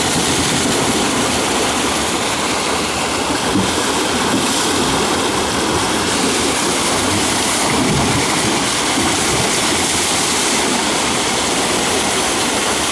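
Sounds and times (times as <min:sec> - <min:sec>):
water rushing over weir: 0:00.0 - 0:12.9.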